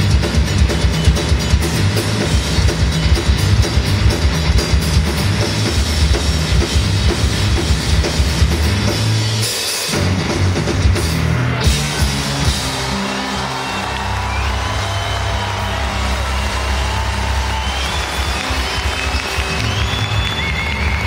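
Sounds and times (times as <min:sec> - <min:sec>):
rock drums pounding: 0:00.0 - 0:21.0.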